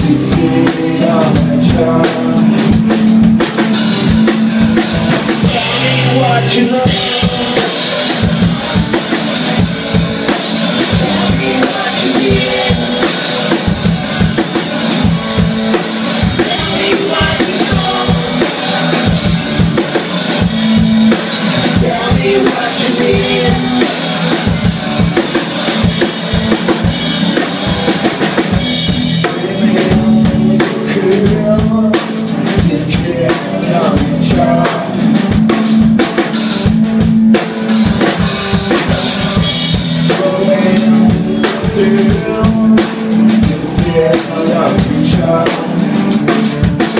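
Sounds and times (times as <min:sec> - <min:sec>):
drum kit beat: 0:00.0 - 0:46.9
electric guitar: 0:00.0 - 0:46.9.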